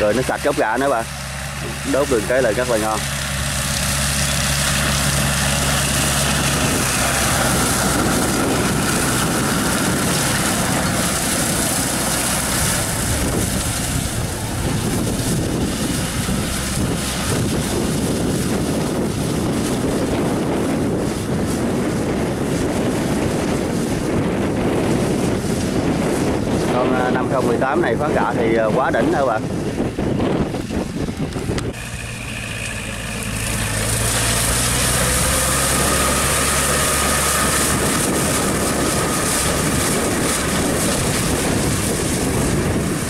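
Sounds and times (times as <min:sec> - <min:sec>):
slasher cutting dry stubble: 0:00.0 - 0:29.3, 0:30.5 - 0:43.0
tractor diesel engine under load: 0:00.0 - 0:43.0.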